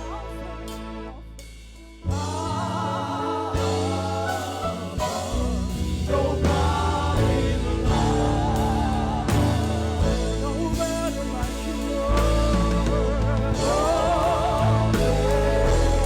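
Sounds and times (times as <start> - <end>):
gospel band playing: 0.0 - 16.0
singers holding wavering notes: 2.1 - 16.0.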